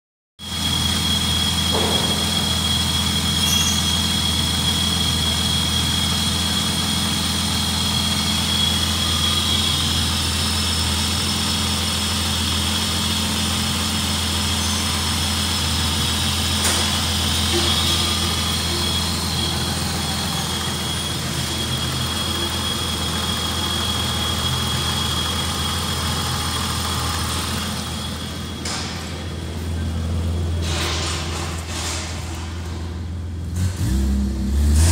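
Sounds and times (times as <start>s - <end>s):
car engine idling: 0.5s - 33.8s.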